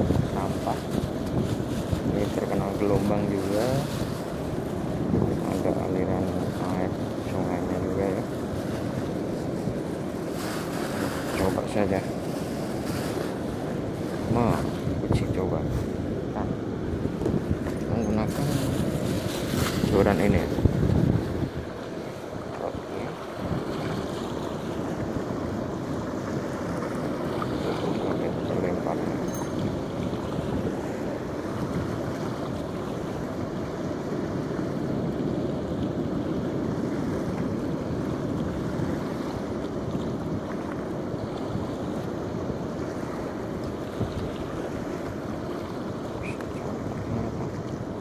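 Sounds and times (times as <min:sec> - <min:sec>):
small waves washing onto shore: 0:00.0 - 0:48.0
wind noise on microphone: 0:00.0 - 0:48.0.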